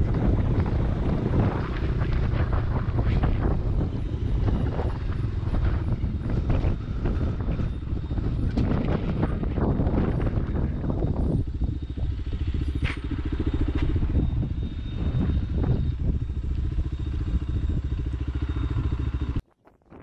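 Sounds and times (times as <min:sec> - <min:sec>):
motorcycle engine rumble: 0:00.0 - 0:19.4
wind buffeting microphone: 0:00.0 - 0:20.0.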